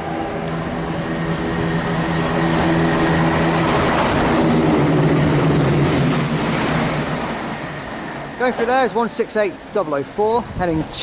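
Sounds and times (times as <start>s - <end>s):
diesel train engines droning: 0.0s - 10.8s.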